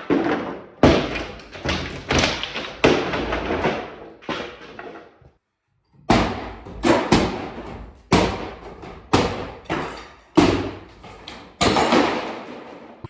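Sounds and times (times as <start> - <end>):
sledgehammer striking a wall: 0.0 - 5.0, 6.0 - 13.0.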